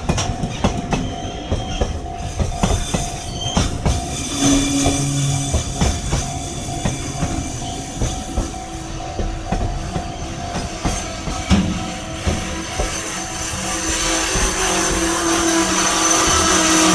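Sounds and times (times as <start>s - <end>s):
freight train passing: 0.0s - 16.9s
wheels clacking over rail joints: 0.0s - 16.9s.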